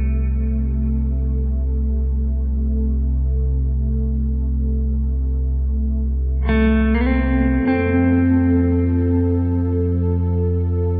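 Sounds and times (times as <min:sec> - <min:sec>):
ambient music chords: 0:00.0 - 0:10.9.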